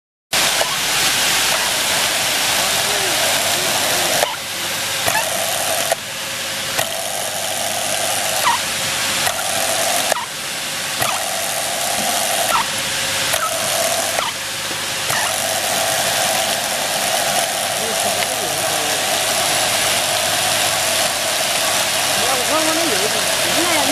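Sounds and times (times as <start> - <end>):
drill press squealing: 0.4 - 6.0, 6.8 - 10.4, 11.0 - 14.4, 15.0 - 23.9
machine hiss: 0.4 - 23.9.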